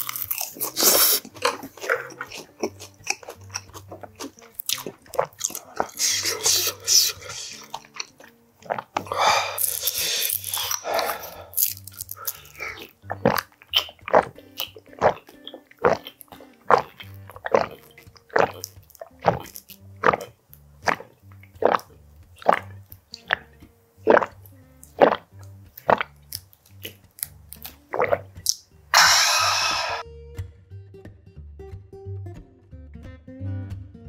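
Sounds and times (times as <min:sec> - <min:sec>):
person gulping from bottle: 0:00.0 - 0:27.0, 0:27.9 - 0:30.0
background music: 0:00.0 - 0:34.0.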